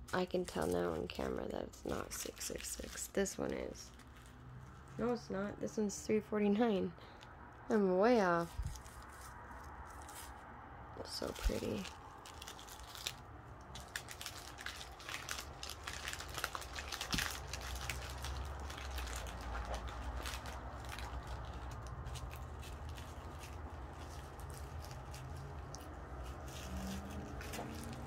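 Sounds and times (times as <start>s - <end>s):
low steady hum: 0.0s - 28.0s
plastic bags crinkling: 0.1s - 5.2s, 8.4s - 10.3s, 11.0s - 28.0s.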